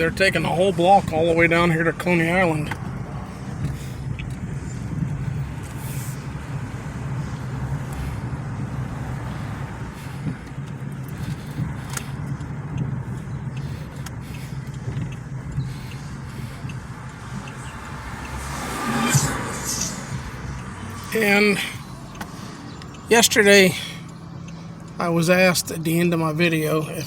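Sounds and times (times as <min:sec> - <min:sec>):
car engine and road hum: 0:00.0 - 0:27.0.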